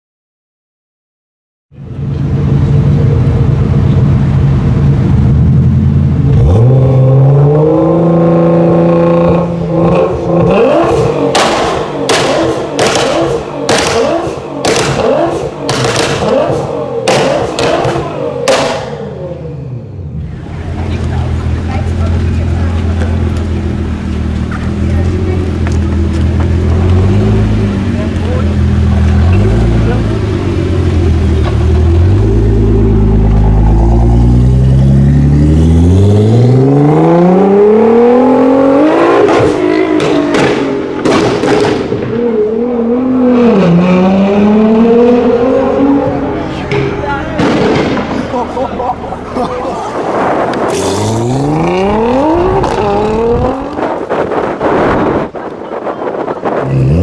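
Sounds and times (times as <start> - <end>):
car engine revving: 2.0 - 57.0
exhaust bangs: 2.3 - 19.5, 20.1 - 57.0.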